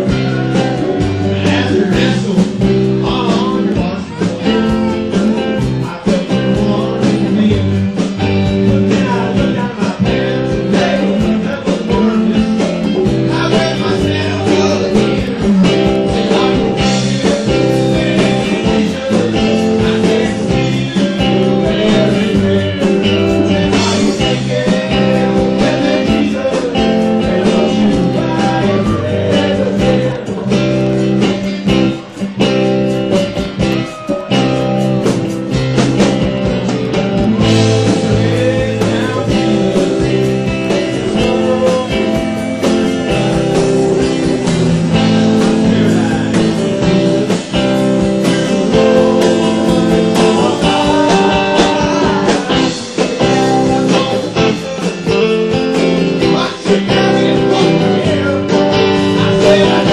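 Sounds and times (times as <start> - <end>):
bass: 0.0 - 59.9
drums: 0.0 - 59.9
electric guitars: 0.0 - 59.9.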